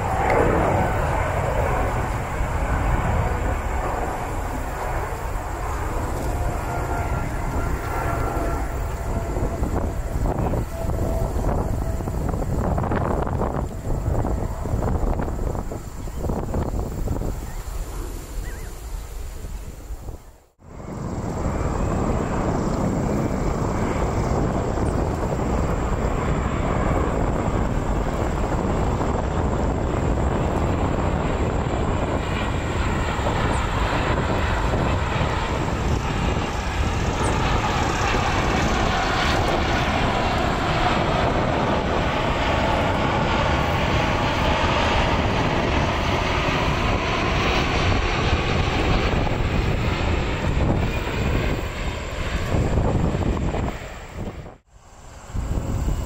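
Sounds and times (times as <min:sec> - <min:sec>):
jet engine whine: 0:00.0 - 0:56.0
jet engines rumbling: 0:00.0 - 0:56.0.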